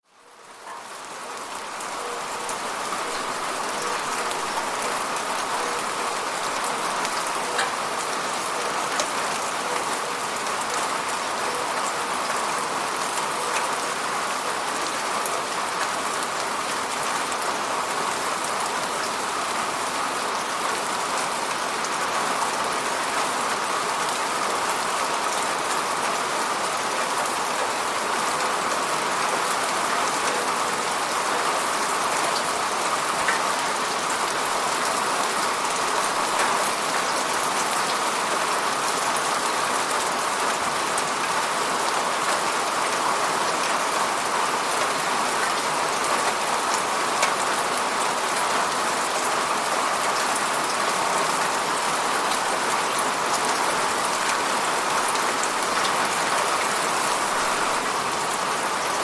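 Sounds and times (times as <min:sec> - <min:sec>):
rain on hard surfaces: 0:00.0 - 0:59.0.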